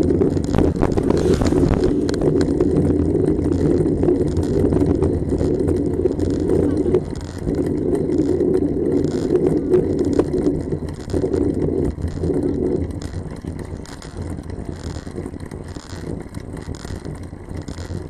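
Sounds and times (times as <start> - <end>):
tyre and road noise: 0.0 - 18.0
wind rushing over microphone: 0.0 - 18.0.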